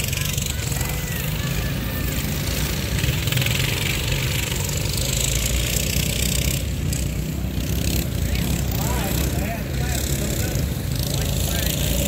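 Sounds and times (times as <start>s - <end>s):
minibike engines racing: 0.0s - 12.0s.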